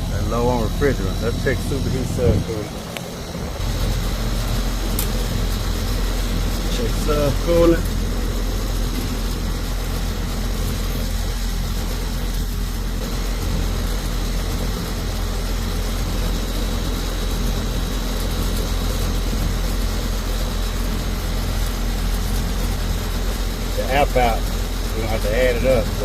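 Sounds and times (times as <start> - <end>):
low hum: 0.0 - 23.8
air conditioner fan rushing: 0.0 - 26.0.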